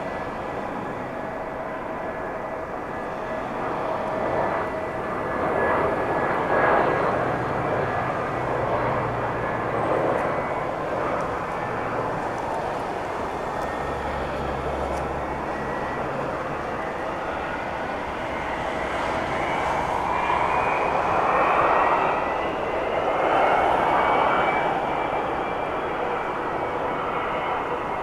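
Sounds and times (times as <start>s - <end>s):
jet engine roar on takeoff: 0.0s - 28.0s.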